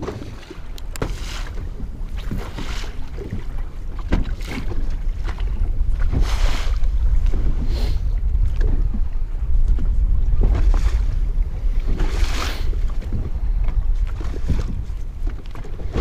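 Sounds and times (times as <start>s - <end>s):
water splashing against hull: 0.0s - 16.0s
wind rumbling on microphone: 0.0s - 16.0s.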